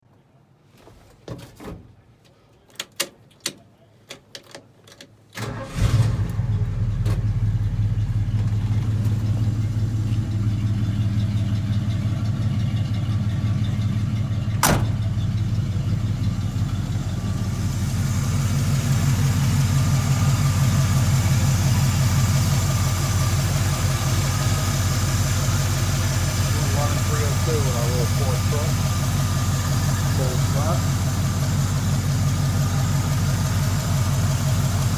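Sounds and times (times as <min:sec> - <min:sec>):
engine starting and idling: 0:05.4 - 0:34.9.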